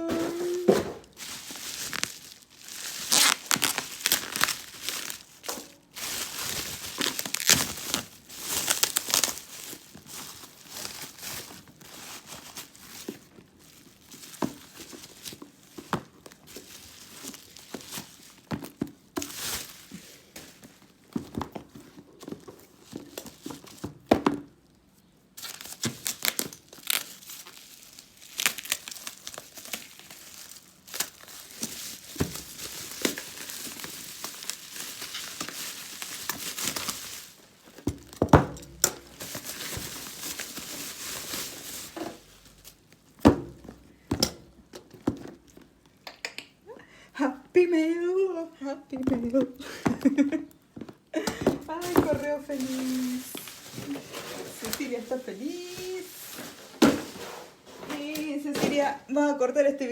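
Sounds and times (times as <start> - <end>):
packaging crinkling and tearing: 0.0 - 24.0, 25.4 - 43.8, 51.7 - 58.8.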